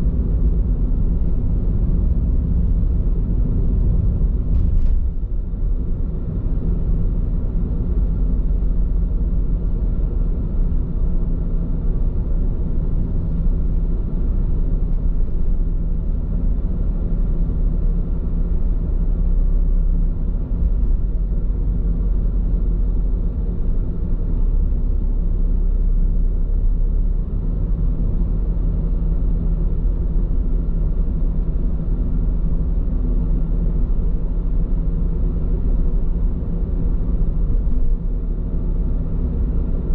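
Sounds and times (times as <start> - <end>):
road and tyre rumble in car: 0.0 - 39.9.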